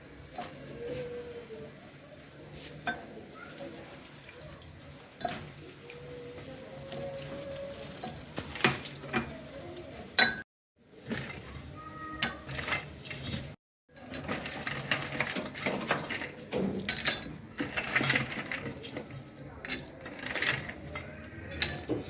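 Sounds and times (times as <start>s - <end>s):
kitchen utensils and dishes clattering: 2.5s - 10.4s, 11.0s - 22.0s.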